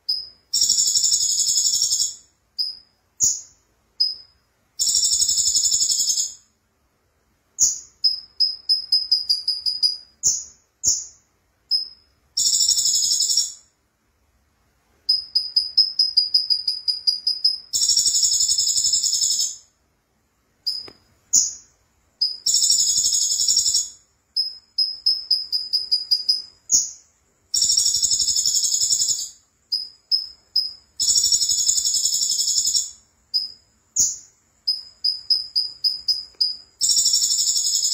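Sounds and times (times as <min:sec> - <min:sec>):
bird chips and trills: 0:00.0 - 0:06.4, 0:07.6 - 0:13.6, 0:15.1 - 0:19.6, 0:20.7 - 0:37.9.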